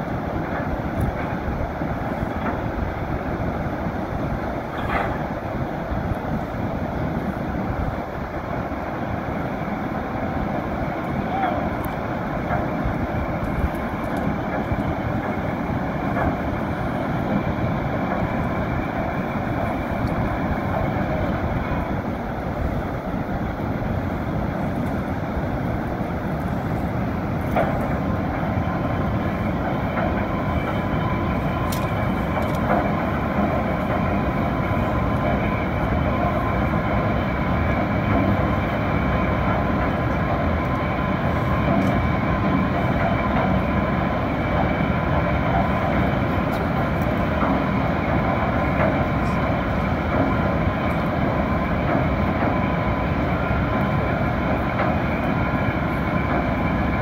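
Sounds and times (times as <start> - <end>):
river water rushing under gates: 0.0 - 57.0.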